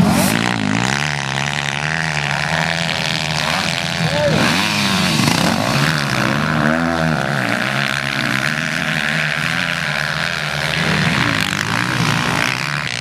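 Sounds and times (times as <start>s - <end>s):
motorcycle engines revving high: 0.0s - 13.0s.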